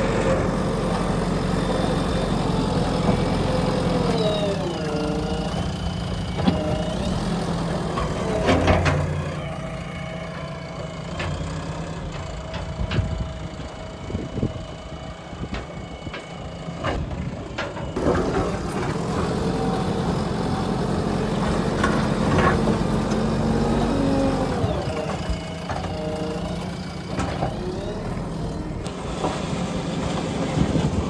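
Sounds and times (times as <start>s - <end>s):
backhoe engine under load: 0.0s - 31.0s.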